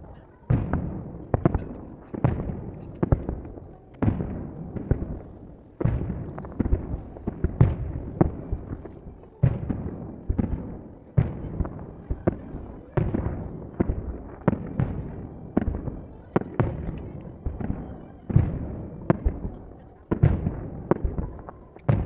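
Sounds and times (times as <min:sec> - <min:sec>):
fireworks booming: 0:00.0 - 0:22.0
fireworks crackling: 0:00.0 - 0:22.0.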